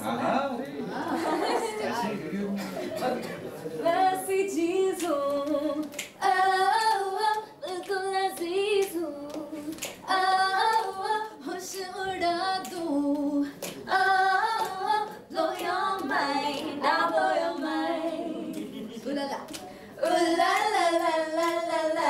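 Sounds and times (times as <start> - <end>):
women singing unaccompanied: 3.8 - 22.0.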